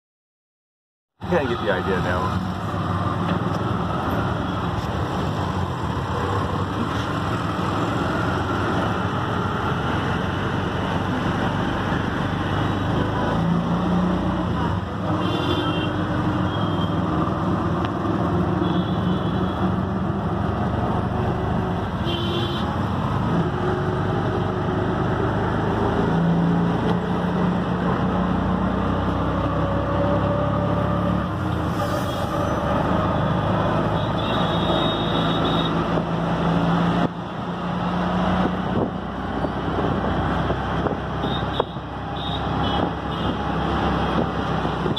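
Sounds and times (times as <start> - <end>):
traffic noise: 1.2 - 44.9.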